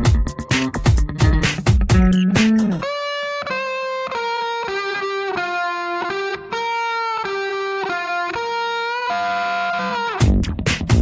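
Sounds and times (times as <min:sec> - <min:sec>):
single-note guitar melody: 0:00.0 - 0:10.6.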